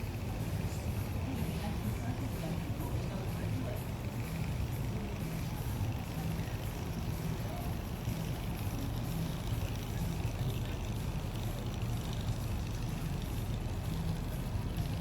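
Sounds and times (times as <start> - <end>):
city background noise: 0.0 - 15.0
low engine rumble: 0.0 - 15.0.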